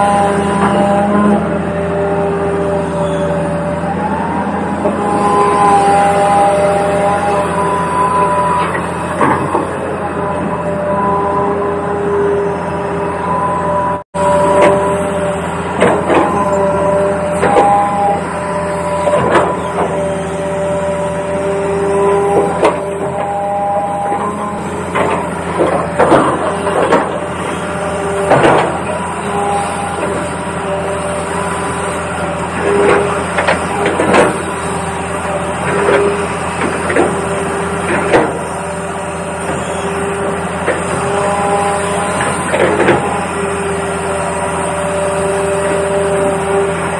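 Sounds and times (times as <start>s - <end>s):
small electric motors whining: 0.0s - 46.9s.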